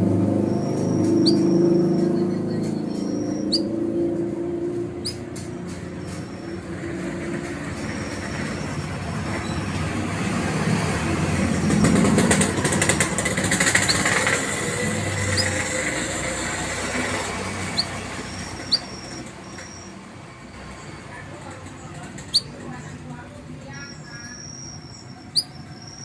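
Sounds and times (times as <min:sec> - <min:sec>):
vehicle passing: 0:00.0 - 0:26.0
canary chirping: 0:00.2 - 0:10.4, 0:11.2 - 0:26.0.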